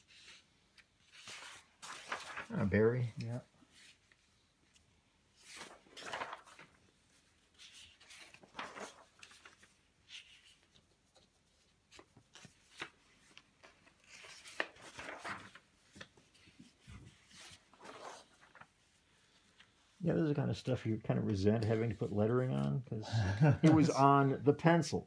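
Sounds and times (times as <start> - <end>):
paper rustling: 0.0 - 20.0, 20.6 - 22.7.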